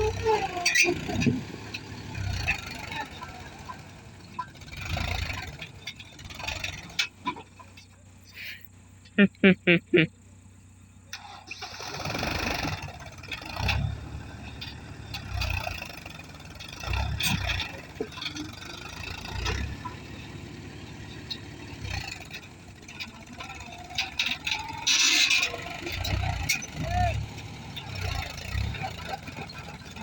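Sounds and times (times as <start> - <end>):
tractor diesel engine rumbling: 0.0 - 30.0.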